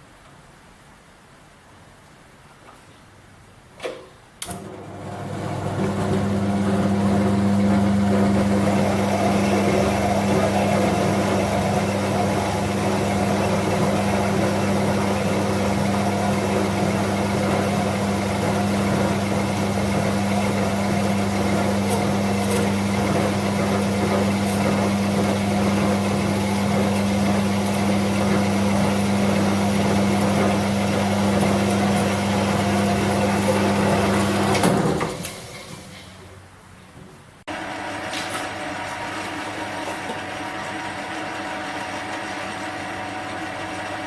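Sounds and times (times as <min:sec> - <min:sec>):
metal lathe motor hum: 0:04.5 - 0:34.8, 0:37.5 - 0:44.0.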